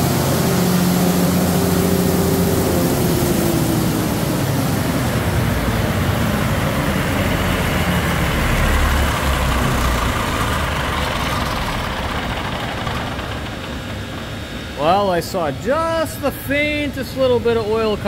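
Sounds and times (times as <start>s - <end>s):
diesel generator running: 0.0s - 18.0s.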